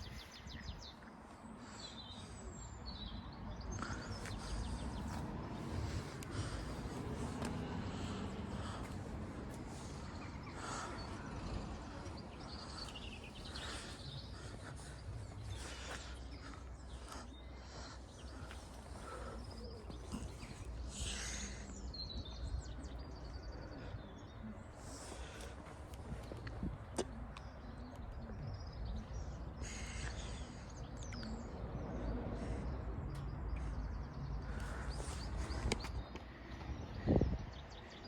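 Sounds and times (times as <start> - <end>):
low outdoor background rumble: 0.0 - 38.0.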